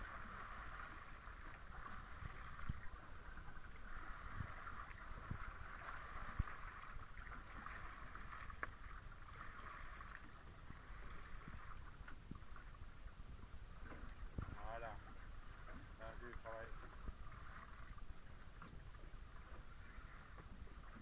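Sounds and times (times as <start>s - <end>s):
sea noise: 0.0s - 21.0s
wind: 0.0s - 21.0s.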